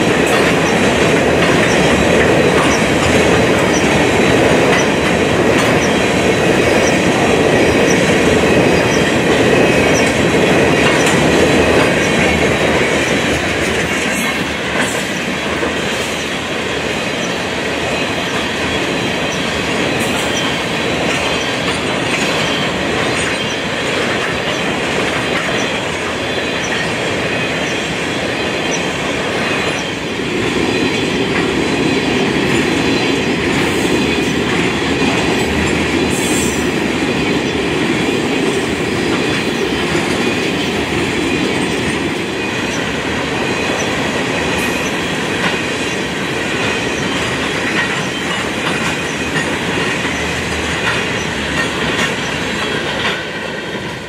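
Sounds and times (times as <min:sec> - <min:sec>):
steel wheels rolling on rail: 0:00.0 - 0:54.0.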